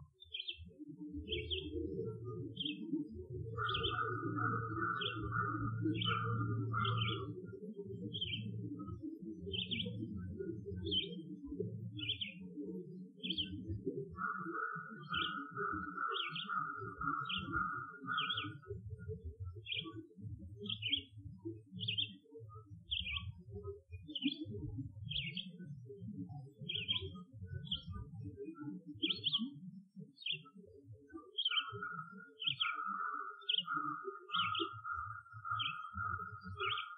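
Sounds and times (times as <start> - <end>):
songbird chirping: 0.0 - 23.4, 24.0 - 29.6, 30.2 - 36.9.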